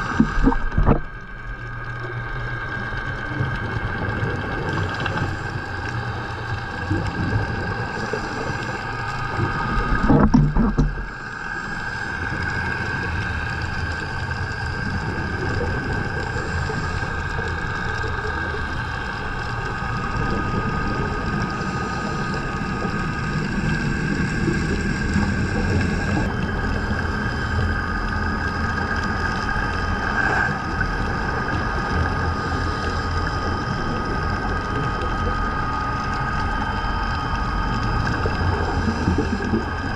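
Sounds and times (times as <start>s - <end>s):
underwater low hum: 0.0s - 39.9s.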